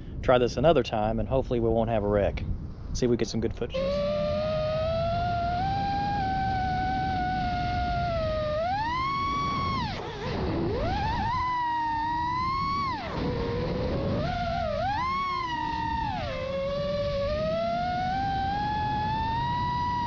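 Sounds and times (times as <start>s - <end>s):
rough low rumble: 0.0s - 20.0s
model aircraft motor whining: 3.7s - 20.0s.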